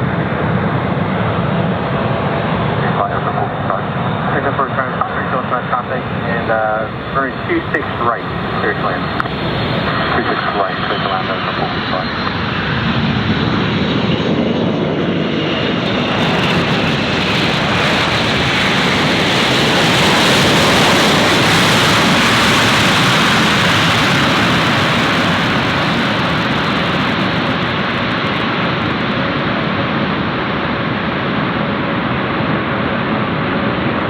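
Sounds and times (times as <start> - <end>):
jet airliner roaring past: 0.0 - 34.0.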